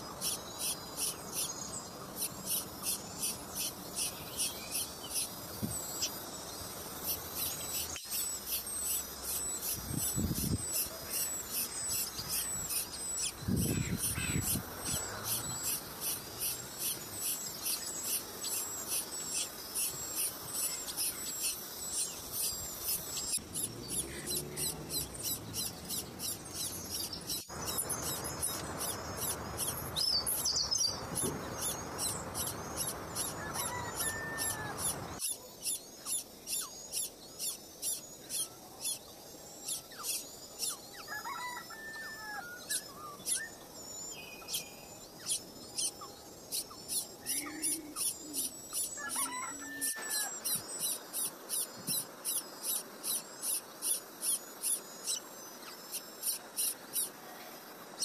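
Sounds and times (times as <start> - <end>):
nestling birds cheeping: 0.0 - 58.0.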